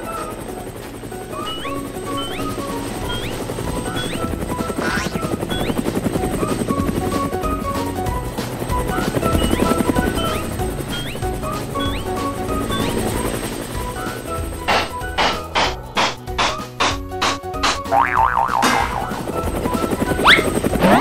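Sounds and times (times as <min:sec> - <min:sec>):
cartoon helicopter rotor chopping: 0:00.0 - 0:16.9, 0:17.7 - 0:21.0
light background music: 0:00.0 - 0:21.0.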